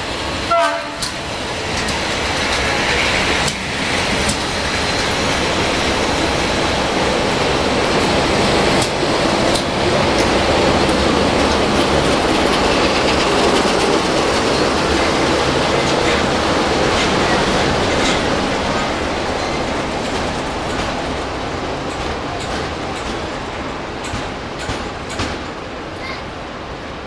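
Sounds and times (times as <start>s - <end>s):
wheels clattering over rail joints: 0.8s - 26.2s.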